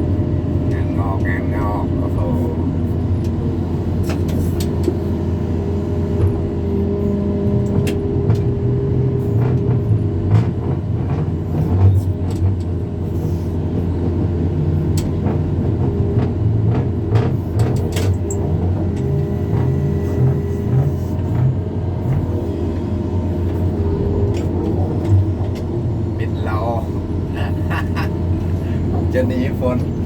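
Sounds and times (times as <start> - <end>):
heavy machinery engine droning: 0.0 - 30.0.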